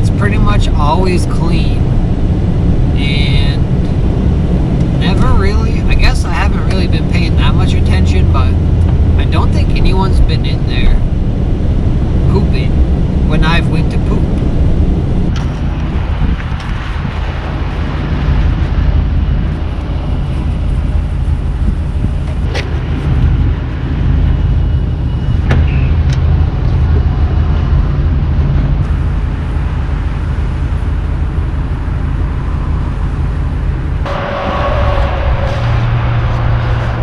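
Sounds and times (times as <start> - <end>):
engine and road noise in a car: 0.0 - 34.2.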